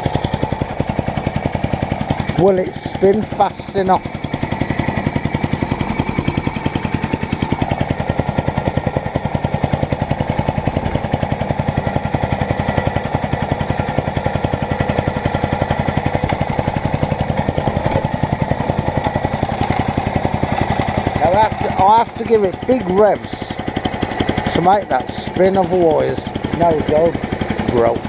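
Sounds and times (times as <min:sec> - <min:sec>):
lawnmower engine running: 0:00.0 - 0:28.0.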